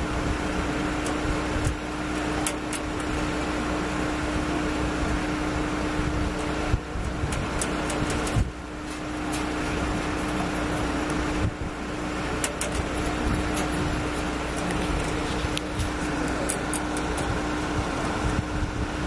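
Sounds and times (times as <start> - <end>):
constant low hum: 0.0 - 19.0.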